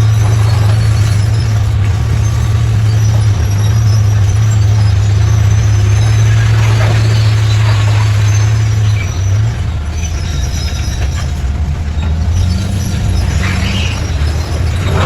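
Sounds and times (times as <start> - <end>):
bulldozer diesel engine: 0.0 - 15.0
steel tracks squealing and clanking: 0.0 - 15.0.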